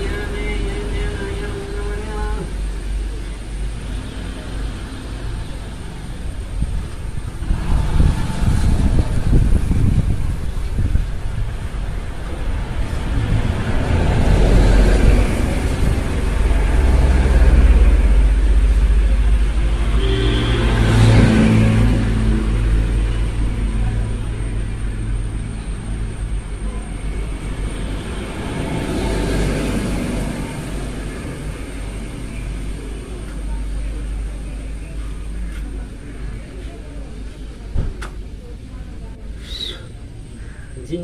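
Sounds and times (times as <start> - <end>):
vehicles passing on road: 0.0 - 41.0.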